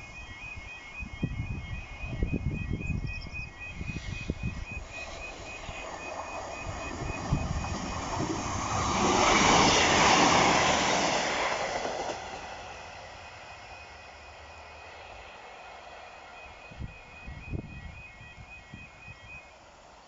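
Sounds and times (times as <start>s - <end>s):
crossing warning alarm: 0.0s - 20.0s
train passing: 0.0s - 20.0s.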